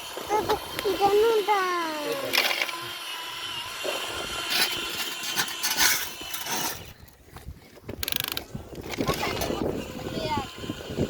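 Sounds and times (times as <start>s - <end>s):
toy gearboxes grinding and clicking: 0.0s - 7.2s, 7.8s - 11.0s.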